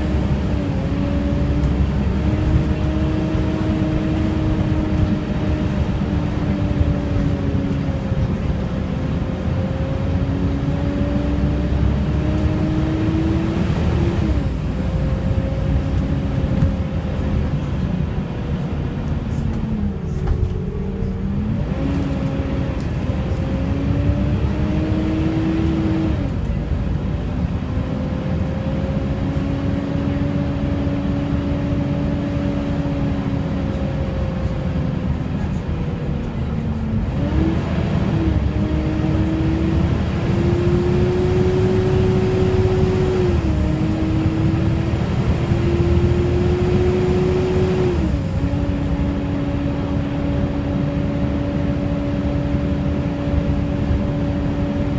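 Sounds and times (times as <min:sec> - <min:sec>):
bus engine whine: 0:00.0 - 0:54.9
road rumble: 0:00.0 - 0:54.9.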